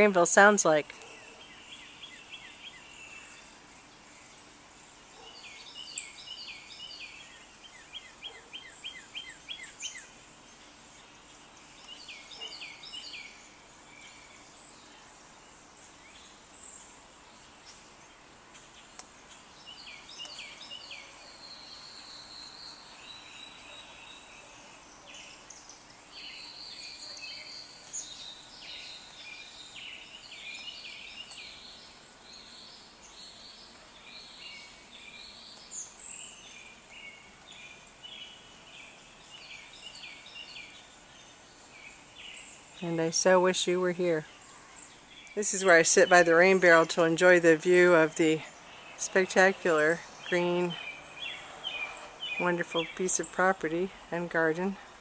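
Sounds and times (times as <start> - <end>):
faint steady background hiss: 0.0 - 55.0
songbirds singing: 0.0 - 55.0.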